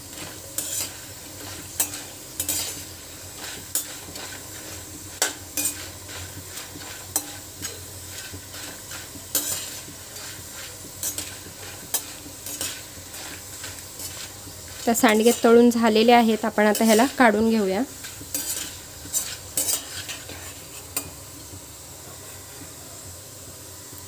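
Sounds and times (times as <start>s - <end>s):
dumplings sizzling in oil: 0.0s - 24.0s
spoon scraping metal pan: 0.1s - 21.2s.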